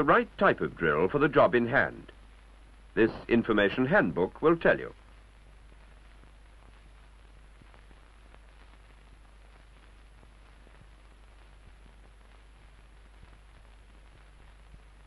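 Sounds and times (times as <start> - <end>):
faint hiss: 0.0 - 15.0
soft crackles: 0.0 - 15.0.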